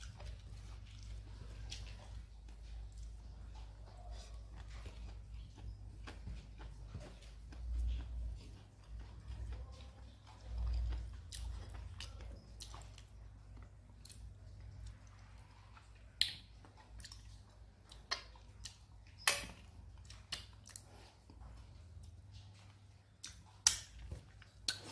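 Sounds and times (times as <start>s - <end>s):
chewing: 0.0s - 24.9s.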